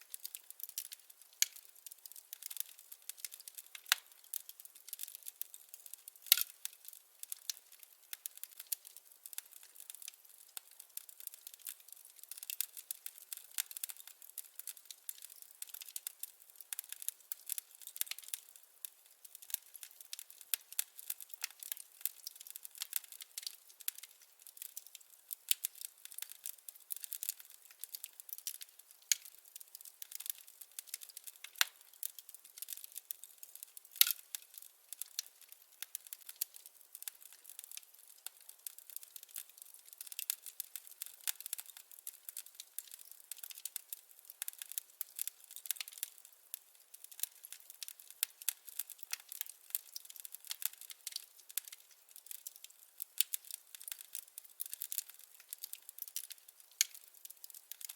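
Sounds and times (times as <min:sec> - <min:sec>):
firewood crackling: 0:00.0 - 0:57.9.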